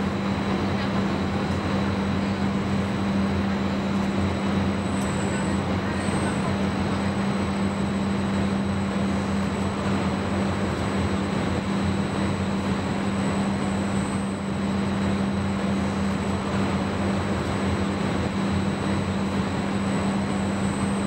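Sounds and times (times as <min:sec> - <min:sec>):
faint high whine: 0:00.0 - 0:21.0
machinery hum: 0:00.0 - 0:21.0.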